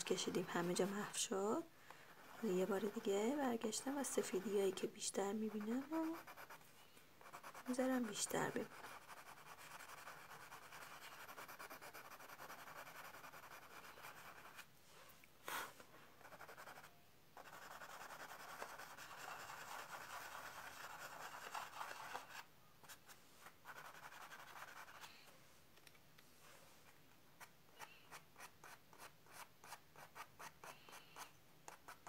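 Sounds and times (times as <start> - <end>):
pencil scratching on paper: 0.0 - 6.6, 7.2 - 14.7, 16.2 - 25.2, 27.4 - 32.0.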